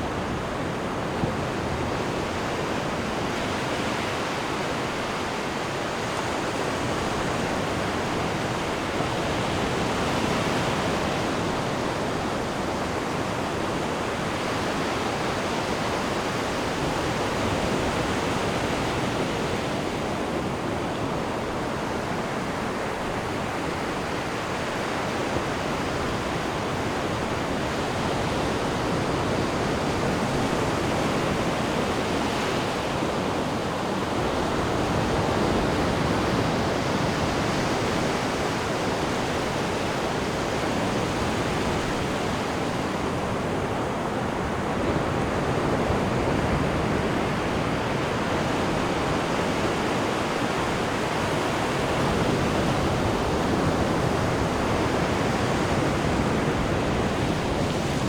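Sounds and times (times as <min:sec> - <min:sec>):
ocean surf washing onto shore: 0:00.0 - 0:58.0.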